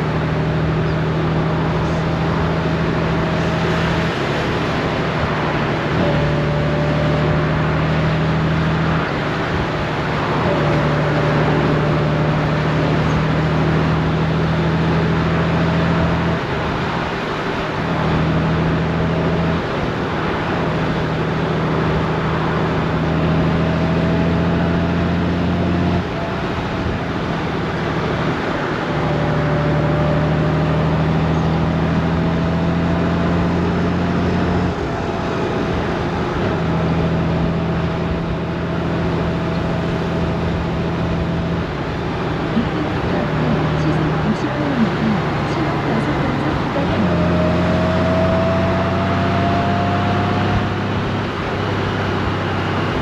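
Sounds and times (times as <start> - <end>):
wind and road noise: 0.0 - 53.0.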